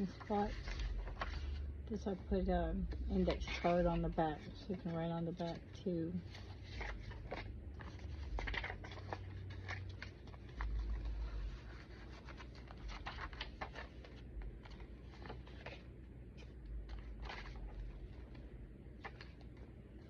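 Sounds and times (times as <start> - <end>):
paper pages rustling: 0.0 - 1.7, 3.2 - 20.0.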